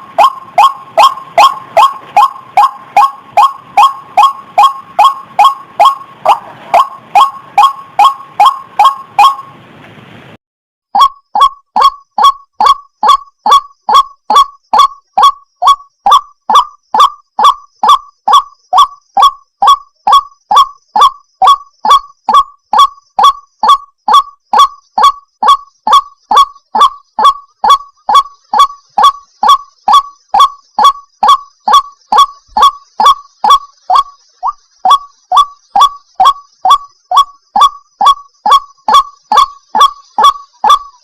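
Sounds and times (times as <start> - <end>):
waterhen calling: 0.0 - 9.8, 11.0 - 41.0.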